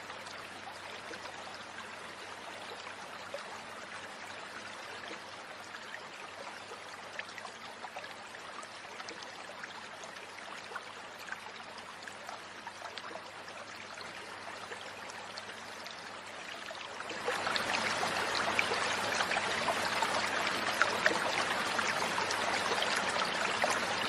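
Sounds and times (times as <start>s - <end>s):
stream running over stones: 0.0s - 24.0s.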